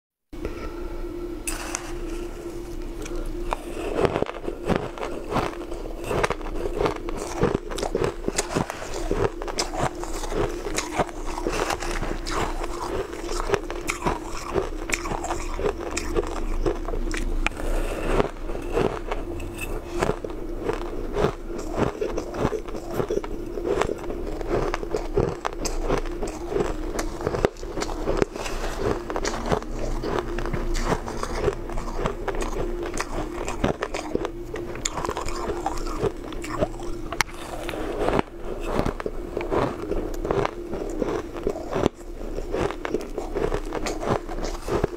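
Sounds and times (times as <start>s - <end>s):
steady low hum: 0.3s - 44.9s
crushed ice being chewed: 1.4s - 44.9s.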